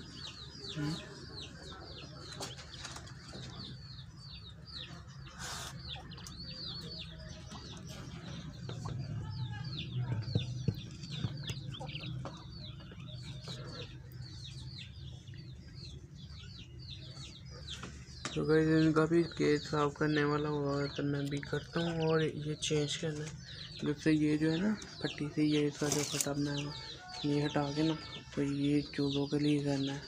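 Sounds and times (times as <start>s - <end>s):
caged birds chirping: 0.0s - 30.0s.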